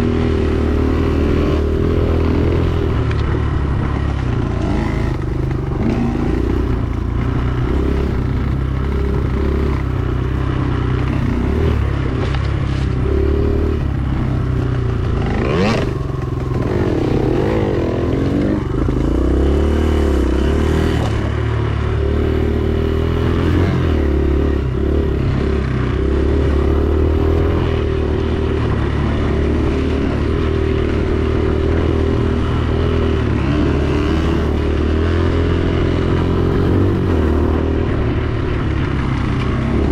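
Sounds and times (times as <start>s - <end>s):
bike rattling and scraping: 0.0s - 39.9s
dirt bike engine revving: 0.0s - 39.9s.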